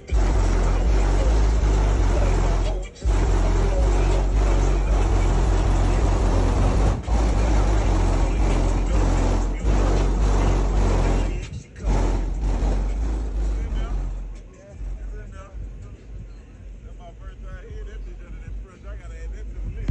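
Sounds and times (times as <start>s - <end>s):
vehicle engine low rumble: 0.0s - 19.9s.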